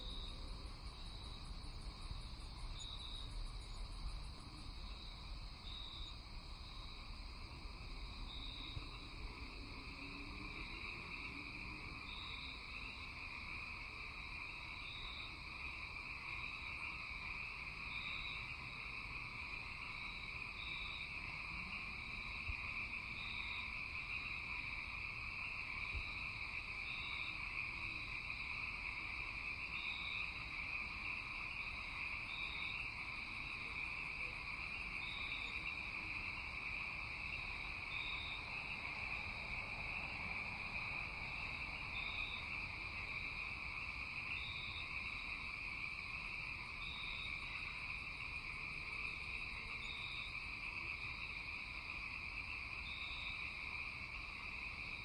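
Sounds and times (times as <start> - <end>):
crickets trilling: 0.0 - 55.0
frogs chirping: 0.0 - 55.0.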